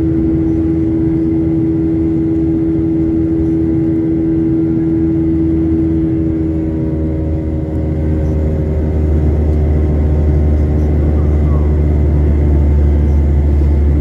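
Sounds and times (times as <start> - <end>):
jet engine roar in cabin: 0.0 - 14.0.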